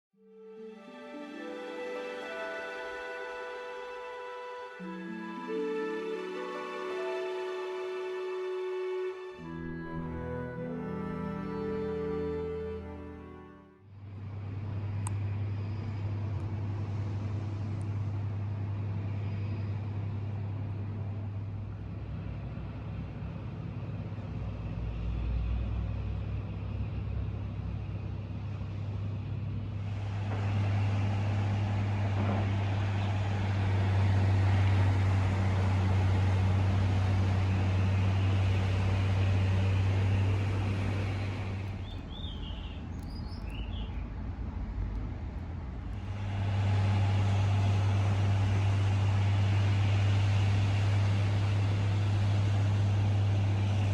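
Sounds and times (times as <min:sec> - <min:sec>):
vehicle hum and road noise: 0:02.2 - 0:53.9.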